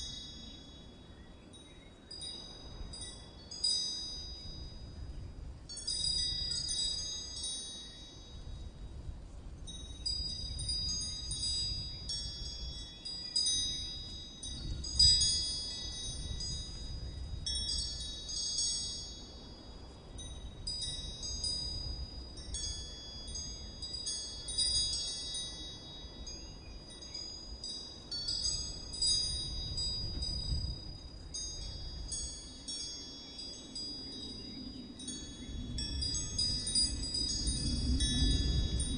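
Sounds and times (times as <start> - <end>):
wind chimes ringing: 0.0 - 9.0, 9.7 - 38.9.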